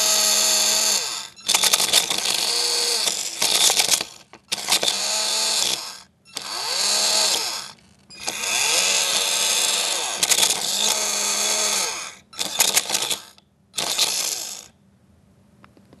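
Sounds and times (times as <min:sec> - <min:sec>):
electric motor spinning up: 0:00.0 - 0:14.7.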